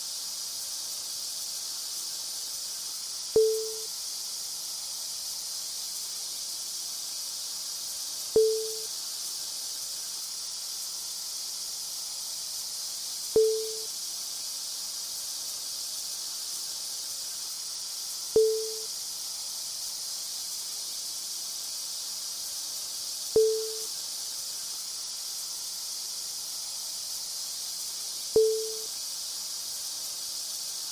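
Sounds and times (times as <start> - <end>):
high-pitched hiss: 0.0 - 30.9.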